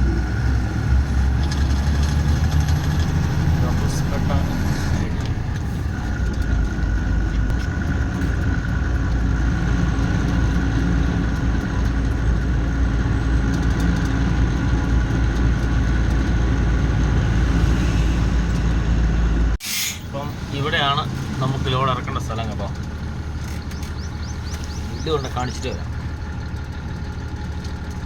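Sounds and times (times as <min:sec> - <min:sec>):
lorry diesel engine droning: 0:00.0 - 0:28.0.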